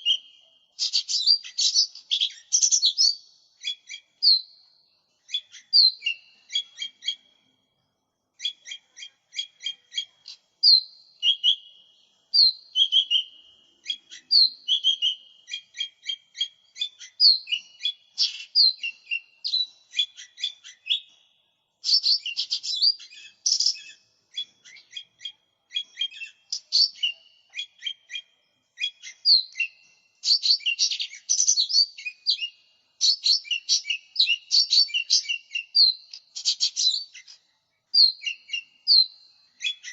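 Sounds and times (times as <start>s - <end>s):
bird singing rapid chirps: 0.0s - 39.9s.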